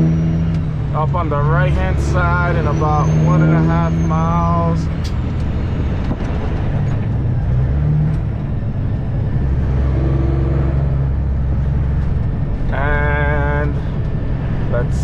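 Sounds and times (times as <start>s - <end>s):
diesel truck engine droning: 0.0s - 15.0s
road noise: 0.0s - 15.0s.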